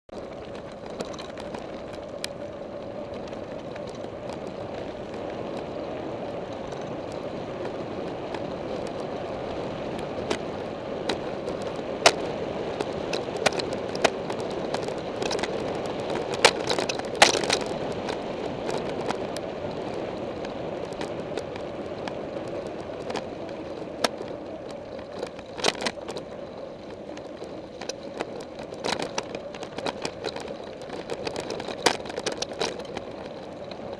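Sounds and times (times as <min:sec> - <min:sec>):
bike clicks and rattles: 0:00.1 - 0:33.9
bike tyres rolling on gravel: 0:00.1 - 0:33.9.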